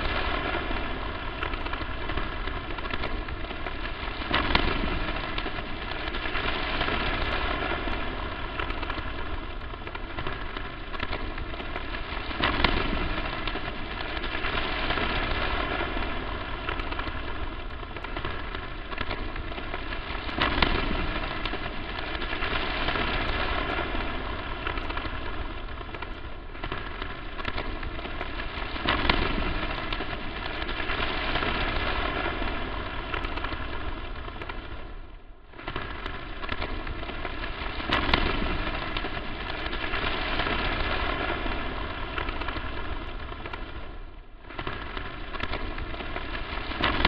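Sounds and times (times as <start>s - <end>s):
crackling static hiss: 0.0s - 47.0s.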